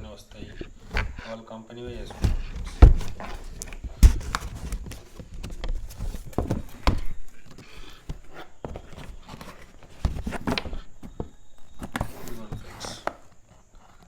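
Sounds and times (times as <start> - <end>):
packaging handling knocks and rustles: 0.0 - 14.0.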